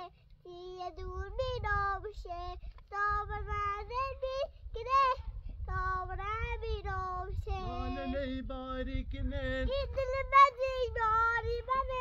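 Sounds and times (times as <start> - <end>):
child singing: 0.0 - 8.4, 9.6 - 12.0
low wind rumble: 0.5 - 12.0.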